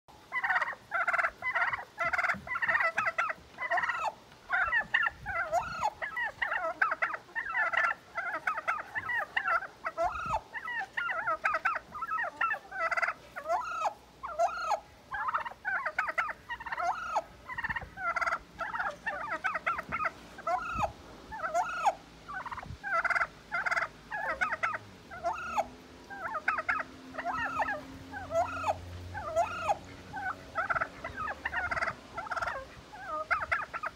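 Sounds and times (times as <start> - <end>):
turkey hen calling: 0.2 - 33.9.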